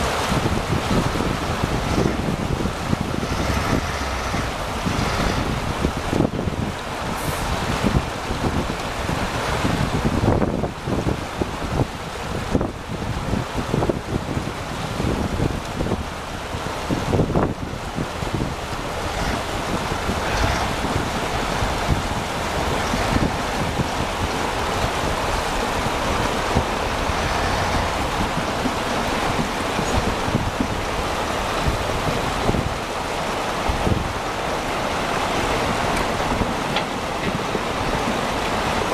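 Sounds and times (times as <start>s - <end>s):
truck running: 0.0s - 38.9s
tyres rolling through slush: 0.0s - 38.9s
wind on microphone: 0.0s - 38.9s.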